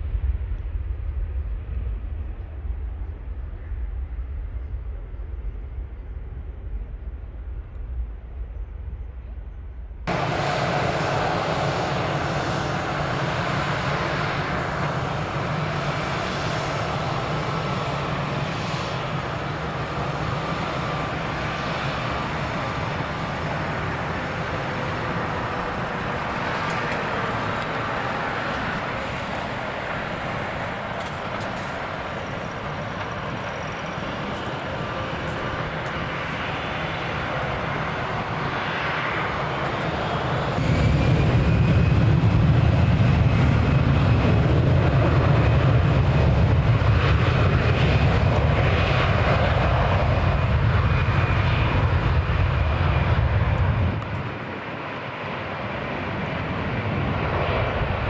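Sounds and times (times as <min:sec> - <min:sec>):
jet engines whining and rumbling: 0:00.0 - 0:58.0.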